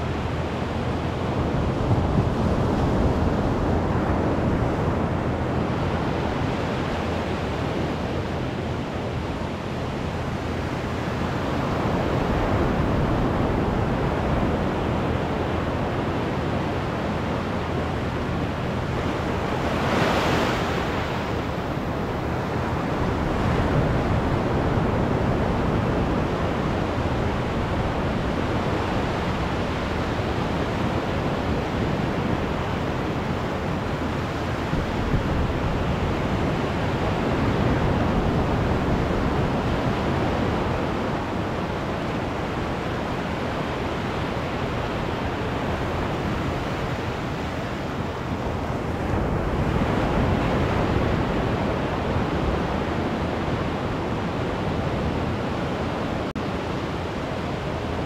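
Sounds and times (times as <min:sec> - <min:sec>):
surf waves breaking on sand: 0:00.0 - 0:58.0.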